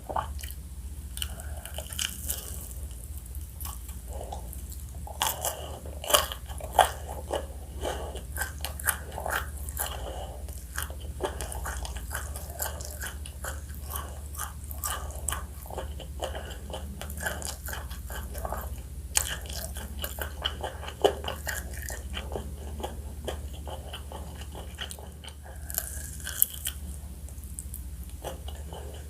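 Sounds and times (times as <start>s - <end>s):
crunchy bites and chewing: 0.0s - 29.0s.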